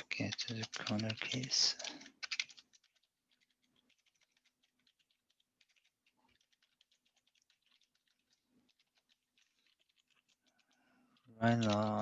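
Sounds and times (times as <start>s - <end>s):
keyboard typing: 0.0s - 12.0s.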